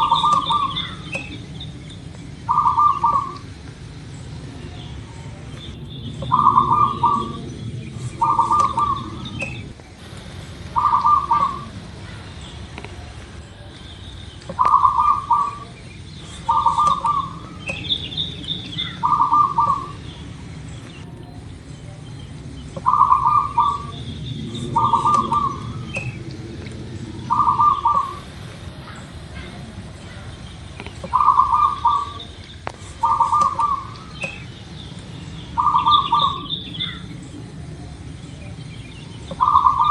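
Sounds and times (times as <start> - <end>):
dove cooing: 0.0 - 13.8, 14.5 - 34.5, 35.5 - 38.0, 39.2 - 39.9
small birds chirping: 0.0 - 39.9.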